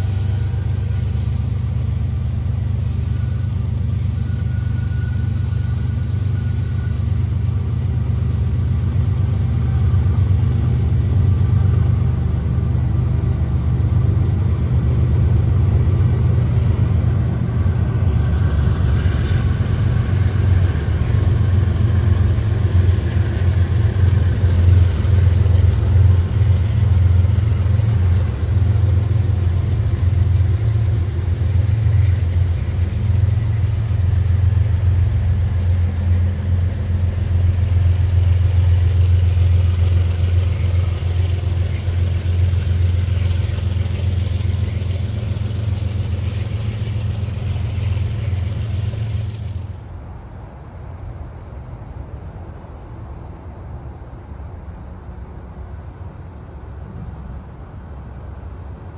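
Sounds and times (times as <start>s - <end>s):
diesel locomotive engine rumbling: 0.0s - 58.9s.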